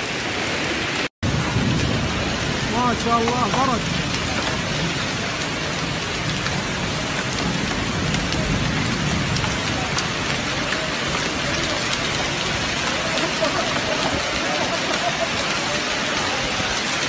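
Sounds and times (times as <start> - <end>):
heavy rain on tiled floor: 0.0 - 17.0.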